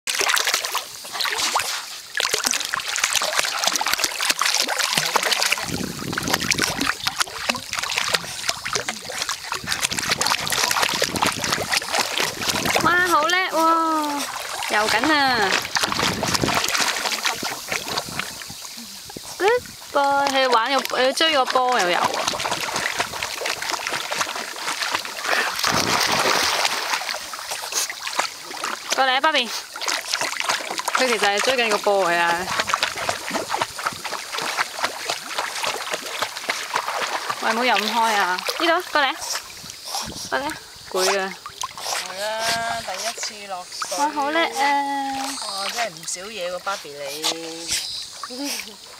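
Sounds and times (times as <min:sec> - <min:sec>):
dog paddling and splashing water: 0:00.1 - 0:48.9.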